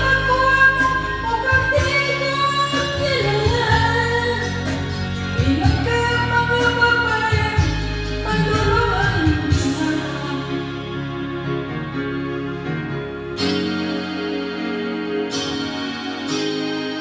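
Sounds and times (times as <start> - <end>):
sung melody with instrumental backing: 0.0 - 17.0.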